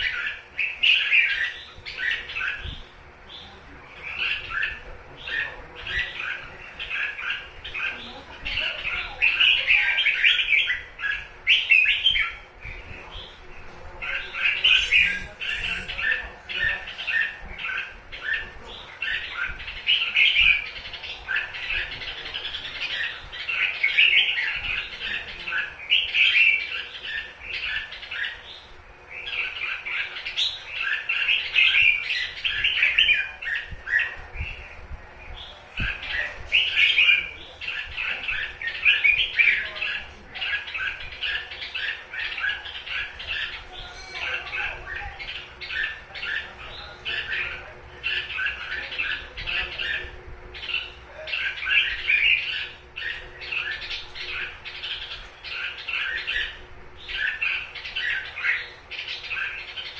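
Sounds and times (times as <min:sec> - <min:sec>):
bulbuls calling and singing: 0:00.0 - 0:59.9.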